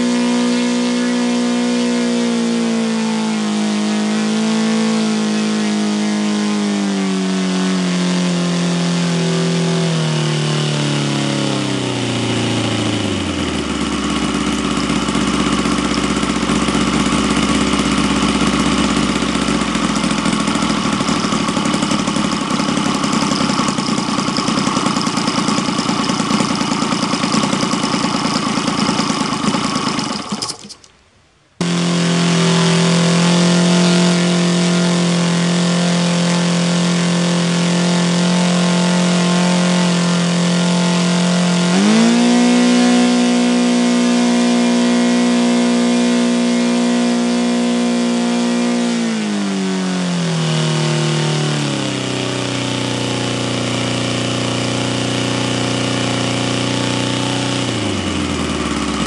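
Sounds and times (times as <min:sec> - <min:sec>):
model engine running: 0:00.0 - 0:30.9, 0:31.6 - 0:59.0.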